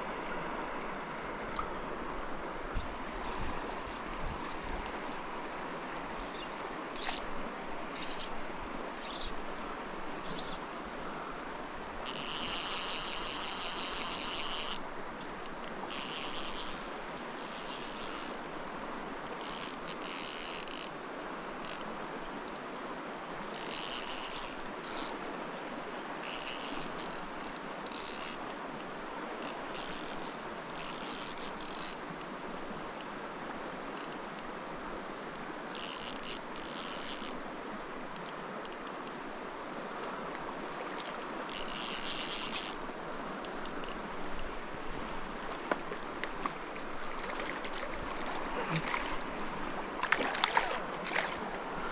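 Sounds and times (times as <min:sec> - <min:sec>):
creek water rushing: 0:00.0 - 0:51.9.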